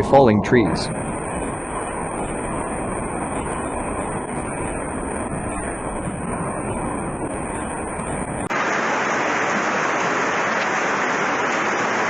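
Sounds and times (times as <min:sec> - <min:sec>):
rushing rumbling noise: 0:00.0 - 0:12.0
torrential rain hissing: 0:00.8 - 0:12.0.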